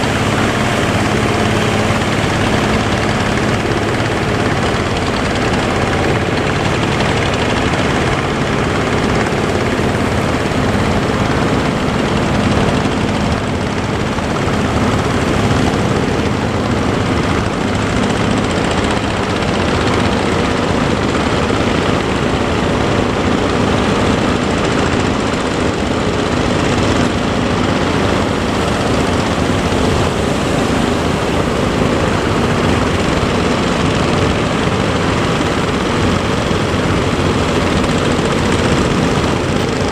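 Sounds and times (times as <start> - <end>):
boat engine running: 0.0 - 39.9
surf: 0.0 - 39.9
wind: 0.0 - 39.9.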